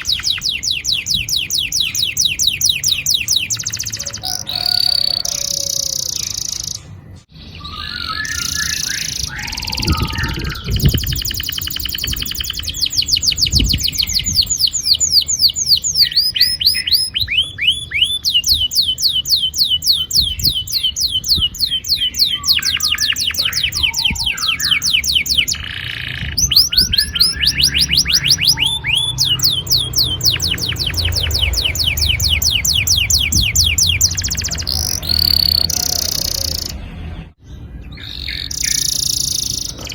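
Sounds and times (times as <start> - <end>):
canary singing rolling trills: 0.0 - 39.9.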